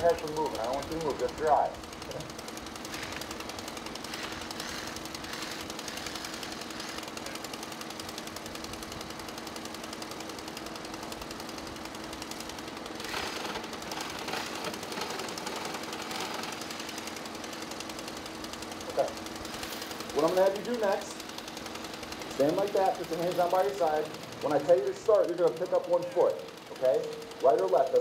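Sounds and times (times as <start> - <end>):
motor rattling: 0.0 - 28.0.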